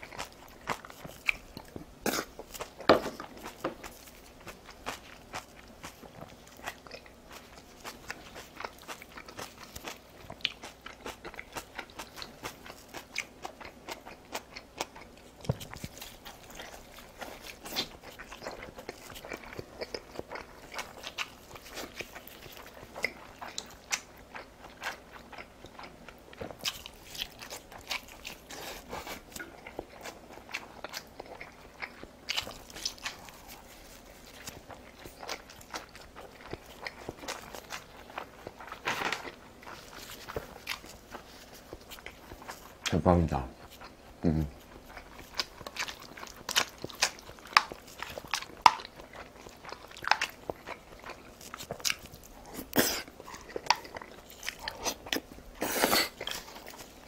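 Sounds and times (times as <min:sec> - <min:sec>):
person biting and chewing food: 0:00.0 - 0:42.9, 0:43.6 - 0:57.0.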